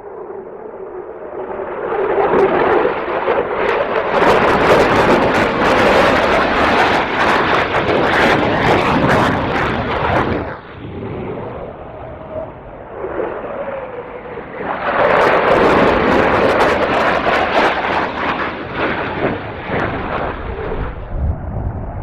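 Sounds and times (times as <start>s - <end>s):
jet roar passing: 0.0s - 22.0s.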